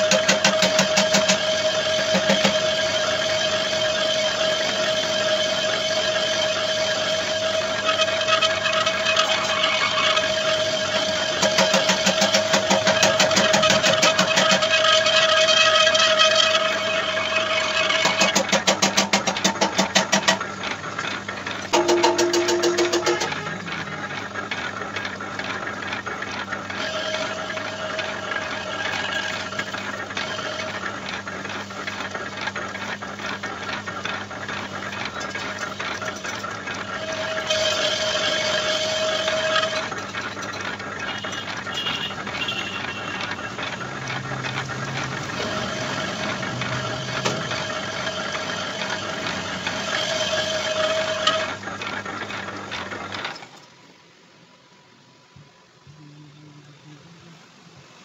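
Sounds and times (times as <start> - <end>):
lathe machine hum: 0.0 - 58.0
fast rattle: 5.7 - 53.7.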